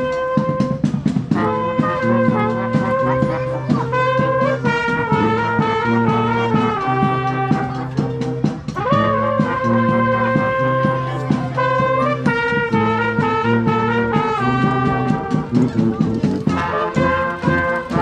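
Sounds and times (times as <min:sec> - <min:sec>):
brass band playing: 0:00.0 - 0:18.0
even drum beat: 0:00.0 - 0:18.0.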